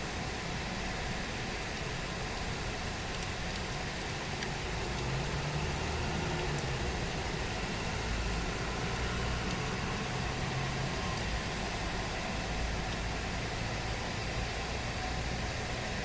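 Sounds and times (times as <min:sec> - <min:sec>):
low engine hum: 0:00.0 - 0:16.0
rain hiss: 0:00.0 - 0:16.0.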